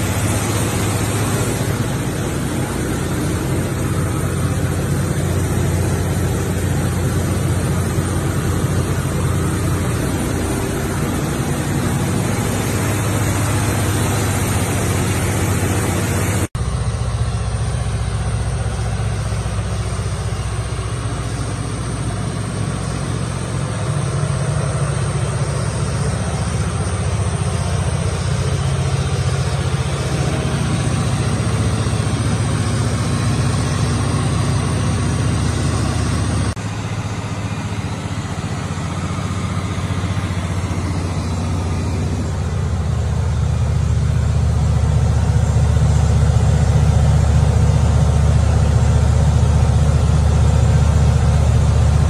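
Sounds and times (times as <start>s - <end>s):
generator humming: 0.0s - 52.0s.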